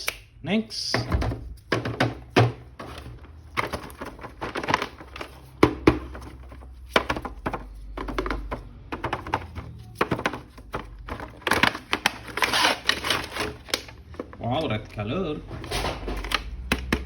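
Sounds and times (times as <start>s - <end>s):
plastic packaging clicks and knocks: 1.0s - 15.0s, 15.9s - 17.0s
plastic packaging rustling: 1.5s - 17.0s.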